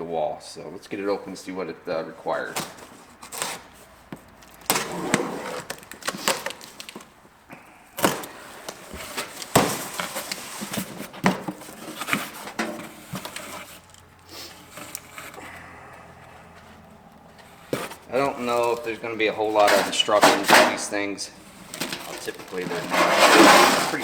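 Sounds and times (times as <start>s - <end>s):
packaging rustling: 2.3s - 24.0s.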